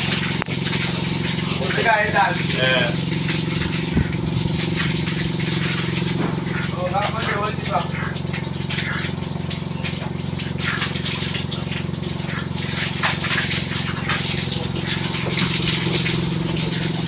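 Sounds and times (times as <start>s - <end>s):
motor hum: 0.0s - 17.0s
water gushing and splashing: 0.0s - 17.0s.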